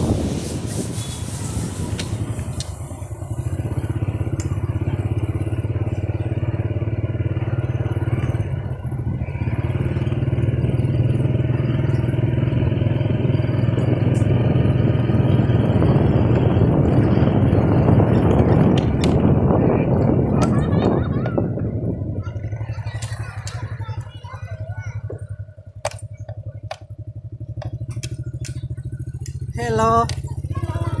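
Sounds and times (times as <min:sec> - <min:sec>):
motorbike engine running: 0:00.0 - 0:31.0.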